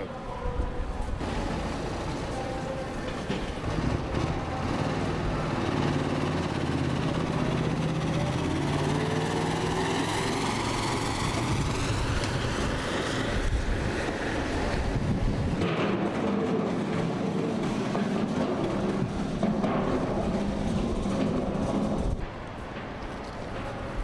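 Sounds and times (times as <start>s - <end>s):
armoured vehicle engine driving: 0.8s - 24.0s.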